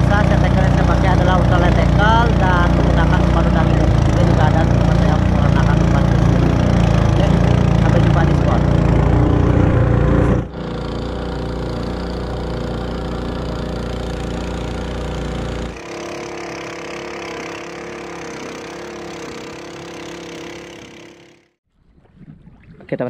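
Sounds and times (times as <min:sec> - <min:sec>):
outboard motor running: 0:00.0 - 0:22.7.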